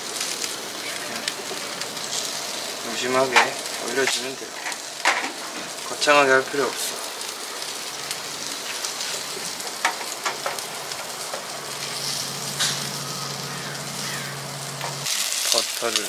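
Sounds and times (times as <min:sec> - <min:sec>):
steaks sizzling on grill: 0:00.0 - 0:16.0.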